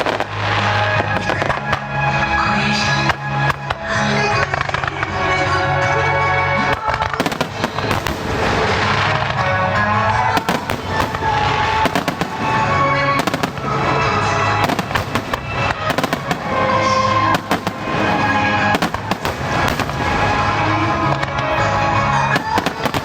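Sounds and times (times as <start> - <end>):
fireworks bursting and crackling: 0.0 - 23.0
music: 0.0 - 23.0.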